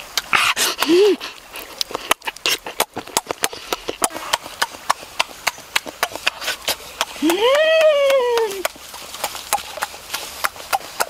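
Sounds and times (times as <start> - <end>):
wet lip-smacking while chewing: 0.0 - 7.3, 8.4 - 11.0.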